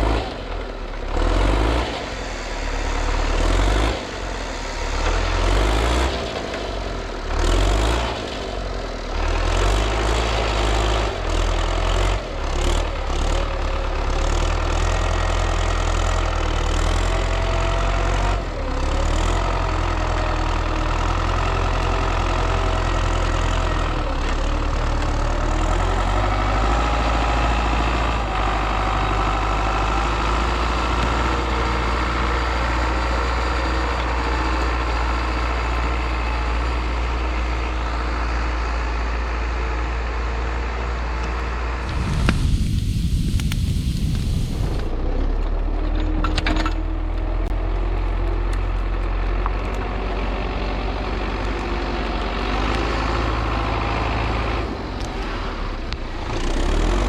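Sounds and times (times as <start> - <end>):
engine knocks and clanks: 0.0 - 42.5, 43.3 - 57.0
tractor diesel engine running: 0.0 - 57.0.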